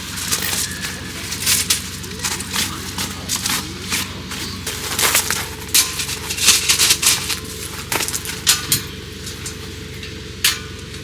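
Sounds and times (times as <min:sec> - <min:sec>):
sharp clicks and clatters: 0:00.1 - 0:09.6.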